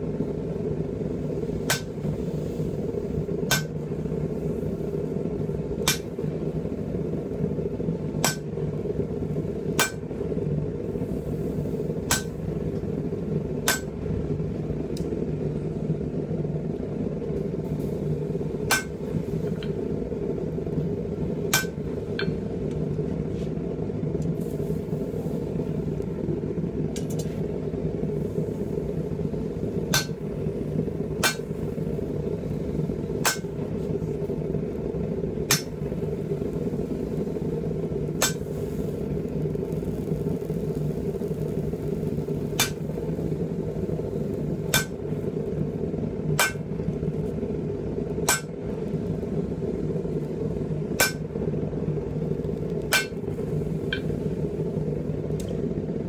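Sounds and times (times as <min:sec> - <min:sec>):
forge fire roaring: 0:00.0 - 0:56.0.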